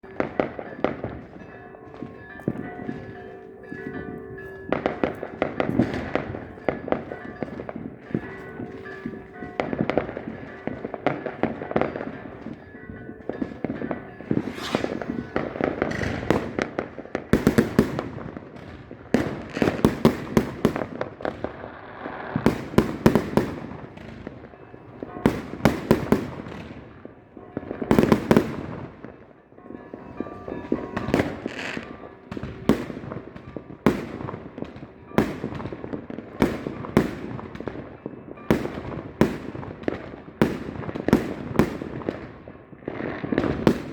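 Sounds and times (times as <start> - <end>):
fireworks banging and crackling: 0.0 - 43.9.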